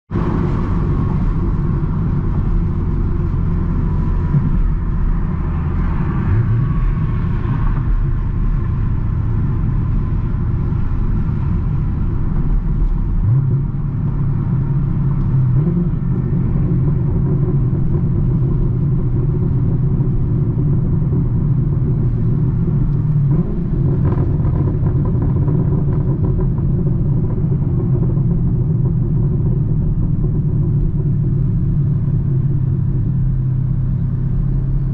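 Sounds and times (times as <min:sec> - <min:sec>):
car exhaust rumbling: 0:00.1 - 0:34.9
exhaust crackle on downshift: 0:00.1 - 0:34.9.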